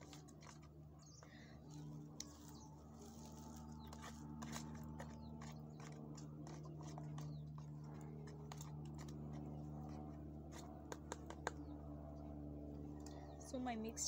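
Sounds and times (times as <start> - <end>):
light clicks and scratches: 0.0 - 11.7
steady low hum: 0.0 - 14.0.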